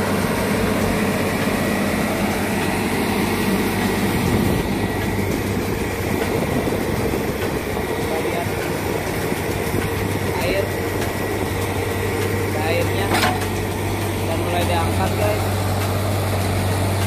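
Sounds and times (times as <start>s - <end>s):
drilling rig engine drone: 0.0s - 17.0s.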